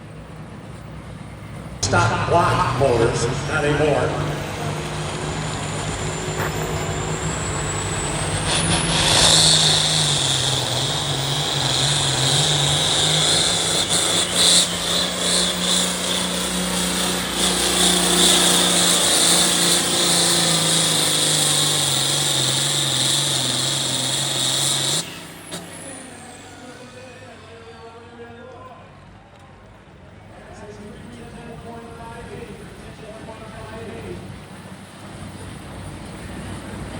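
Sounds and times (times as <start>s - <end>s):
tractor engine at full throttle: 0.0s - 27.8s, 30.8s - 36.9s.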